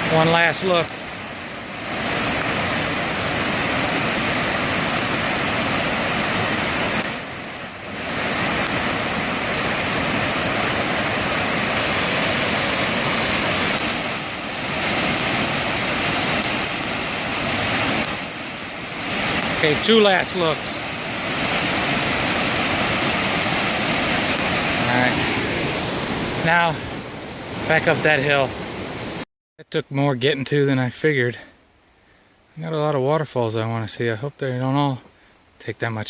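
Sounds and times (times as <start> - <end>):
waterfall roaring: 0.0 - 29.2.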